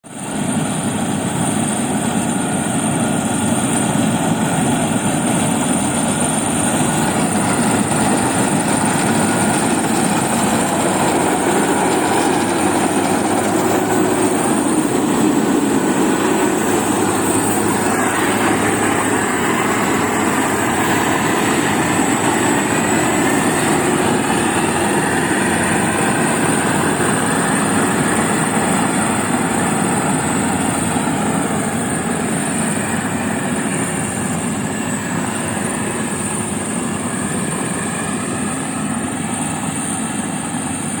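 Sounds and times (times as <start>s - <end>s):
farm machinery running: 0.1s - 40.9s
high mechanical whine: 0.2s - 40.9s.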